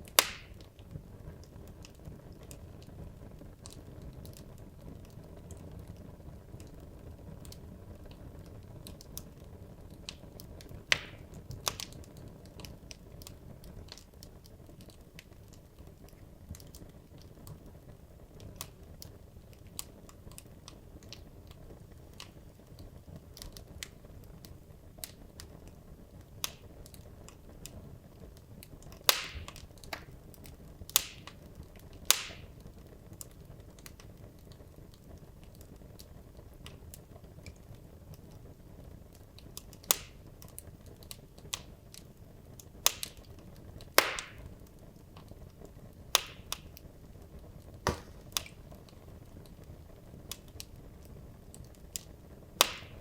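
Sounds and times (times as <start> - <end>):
fire flames rumbling: 0.0 - 52.7
wood crackling and popping: 0.0 - 53.0.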